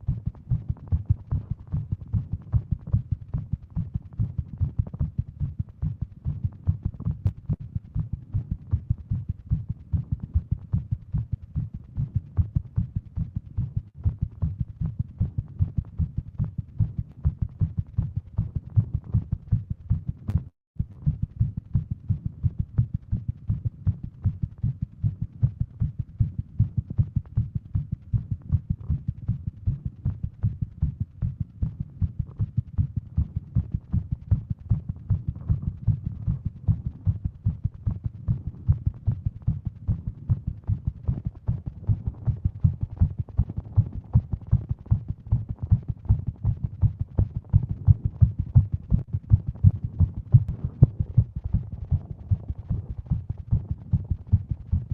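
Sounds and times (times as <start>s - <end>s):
fast heartbeat: 0.0s - 54.9s.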